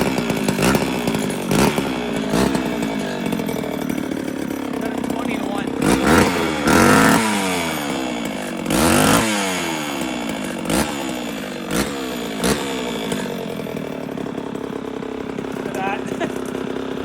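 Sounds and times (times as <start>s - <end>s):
chainsaw revving and idling: 0.0s - 17.0s.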